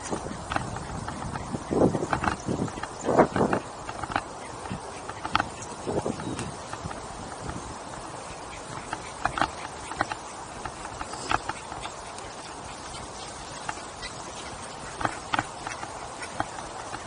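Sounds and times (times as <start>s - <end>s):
bicycle clicks and rattles: 0.0s - 17.0s.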